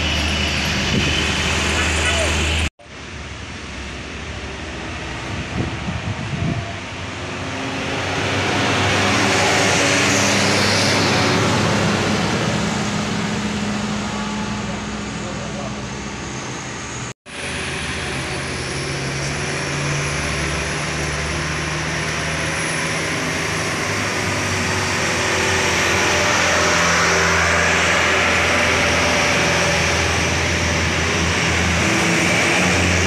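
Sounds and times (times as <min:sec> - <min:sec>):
bus engines passing: 0:00.0 - 0:33.0.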